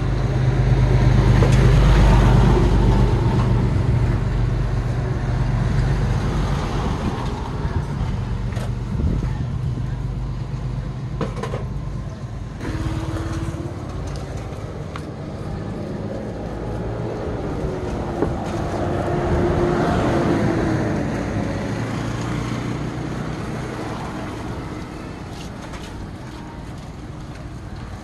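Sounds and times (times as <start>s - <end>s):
vehicle engine passing by: 0.0s - 11.2s, 12.5s - 26.8s.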